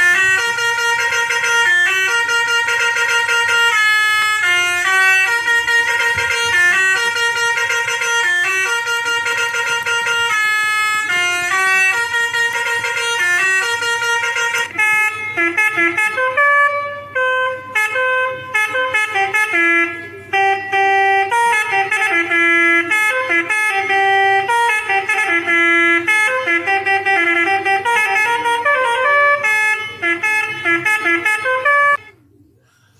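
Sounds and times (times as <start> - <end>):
electronic bus horn playing a tune: 0.0 - 32.2.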